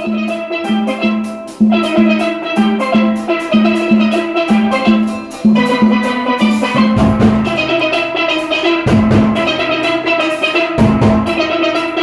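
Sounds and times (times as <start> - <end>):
drum kit and percussion: 0.0 - 12.0
steelpans playing: 0.0 - 12.0.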